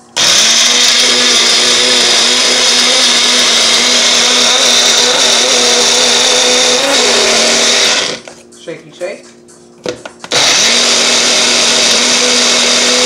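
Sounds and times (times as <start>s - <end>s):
blender running: 0.0s - 8.3s, 10.3s - 13.0s.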